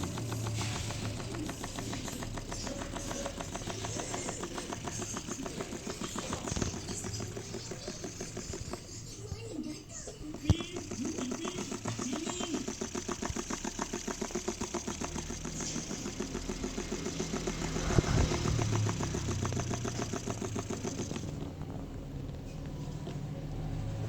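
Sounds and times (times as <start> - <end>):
motor driven siren rattling: 0.0 - 24.0.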